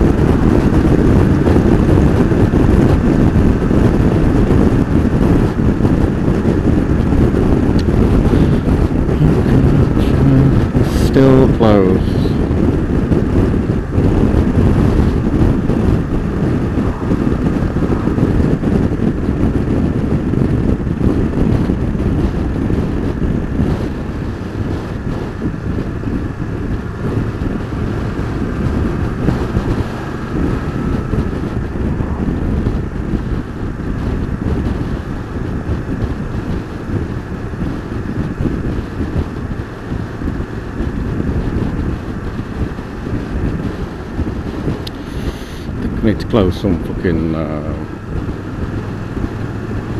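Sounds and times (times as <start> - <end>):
motorcycle engine rumble: 0.0 - 49.9
road noise: 0.0 - 49.9
wind buffeting microphone: 0.0 - 49.9.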